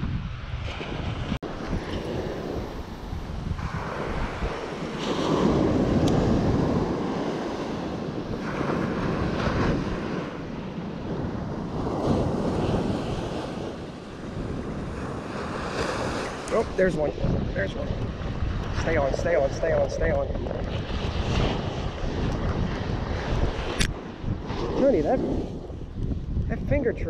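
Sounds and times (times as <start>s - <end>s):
wind buffeting microphone: 0.0s - 27.0s
ocean surf breaking: 0.3s - 26.8s.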